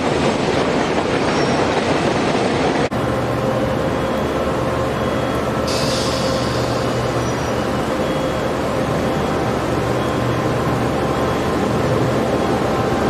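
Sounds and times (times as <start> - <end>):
electric locomotive humming: 0.0 - 13.0
passing train: 0.0 - 13.0.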